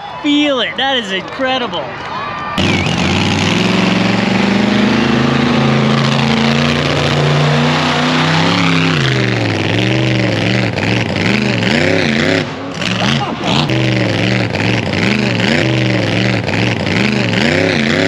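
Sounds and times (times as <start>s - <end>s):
truck engine revving: 2.6s - 18.0s.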